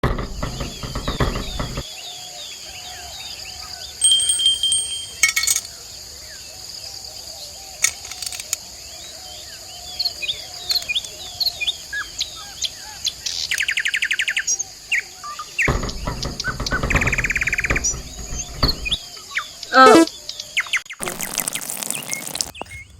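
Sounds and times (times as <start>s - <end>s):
small birds chirping: 0.0s - 6.1s, 6.7s - 22.9s.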